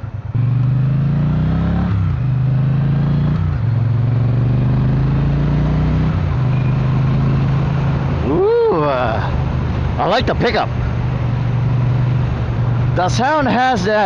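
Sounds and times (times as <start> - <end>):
motorcycle engine accelerating: 0.0 - 13.1.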